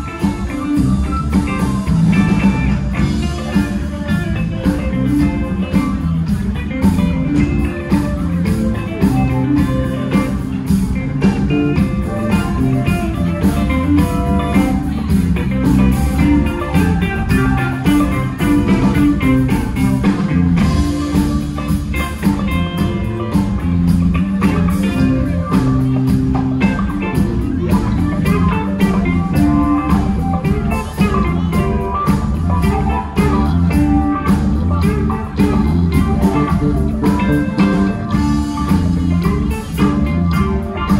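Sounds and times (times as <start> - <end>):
band playing blues-rock: 0.0 - 40.9.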